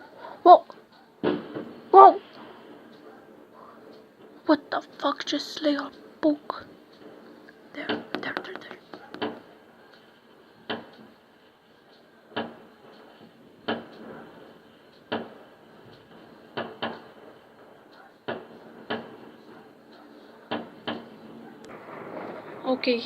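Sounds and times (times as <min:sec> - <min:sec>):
distant fireworks bangs: 0:01.2 - 0:04.4, 0:06.5 - 0:11.5, 0:12.3 - 0:23.0.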